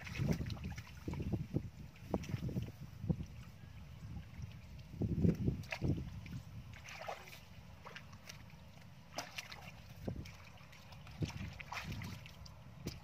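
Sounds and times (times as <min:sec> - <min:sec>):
low steady rumble: 0:00.0 - 0:13.0
muddy water sloshing and splashing: 0:00.0 - 0:13.0.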